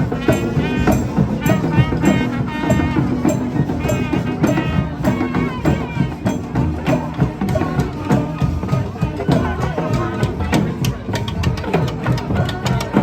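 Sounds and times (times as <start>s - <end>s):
horns playing melodic notes: 0.0s - 13.0s
percussion striking: 0.0s - 13.0s.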